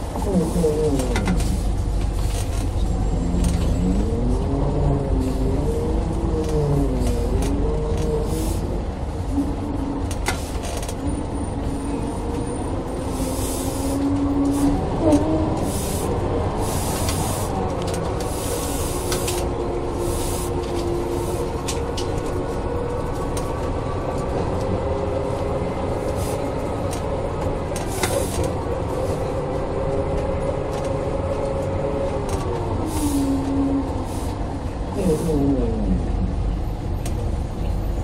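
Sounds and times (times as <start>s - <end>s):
bus diesel engine rumble: 0.0s - 38.0s.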